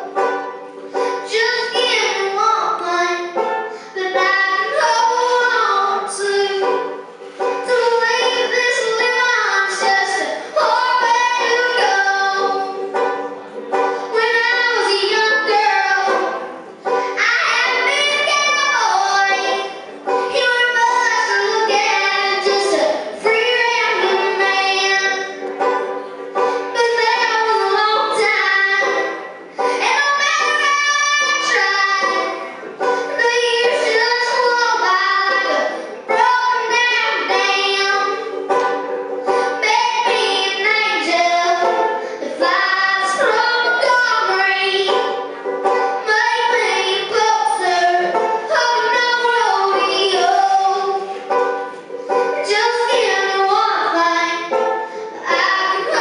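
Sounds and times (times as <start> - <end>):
ukulele strumming: 0.0 - 56.0
girl singing: 0.9 - 12.9, 13.9 - 56.0.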